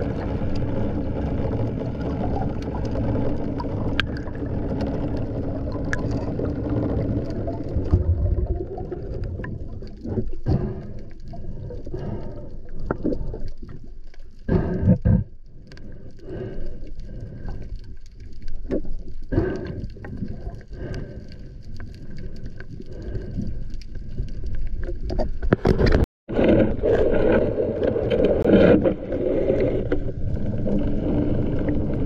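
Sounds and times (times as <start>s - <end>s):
underwater water rushing: 0.0s - 32.0s.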